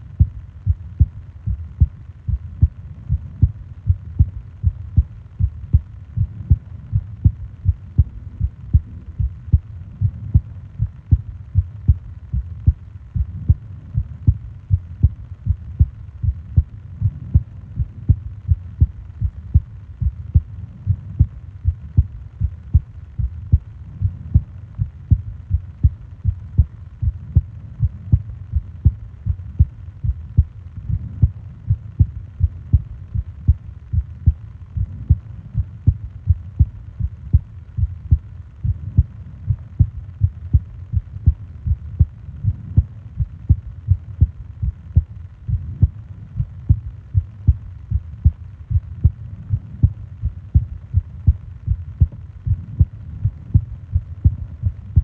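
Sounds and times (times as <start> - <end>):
faint low hum: 0.0 - 55.0
heartbeat thumps: 0.0 - 55.0.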